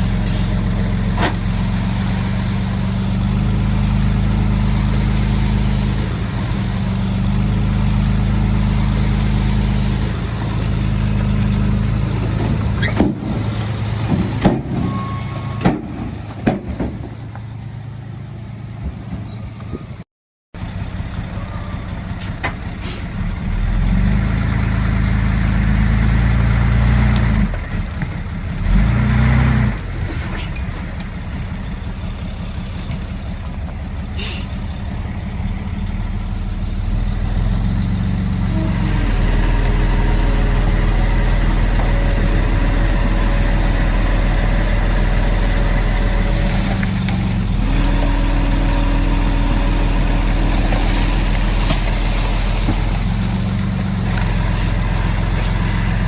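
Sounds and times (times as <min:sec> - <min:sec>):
diesel machinery running: 0:00.0 - 0:20.0, 0:20.6 - 0:56.0.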